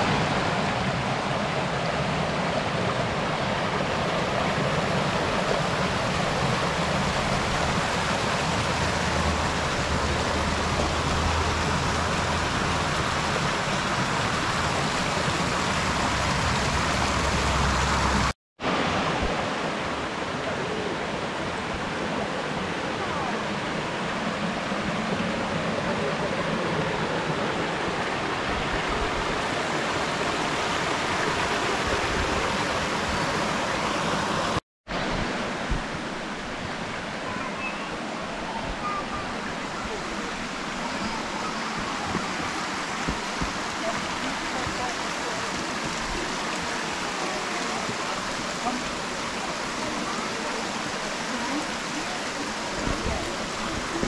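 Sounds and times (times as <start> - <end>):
stream cascading over rocks: 0.0 - 54.0.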